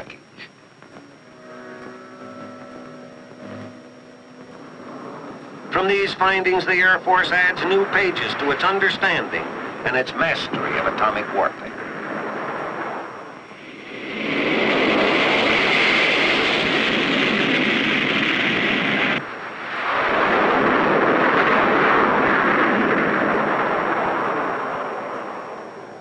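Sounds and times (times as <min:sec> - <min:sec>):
jet engines roaring on takeoff: 0:00.0 - 0:26.0.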